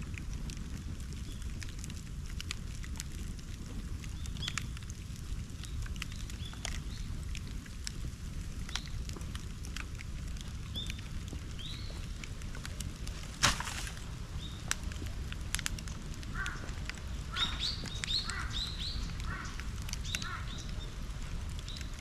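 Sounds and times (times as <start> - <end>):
bonfire low rumble: 0.0 - 22.0
fire crackles and snaps: 0.0 - 22.0.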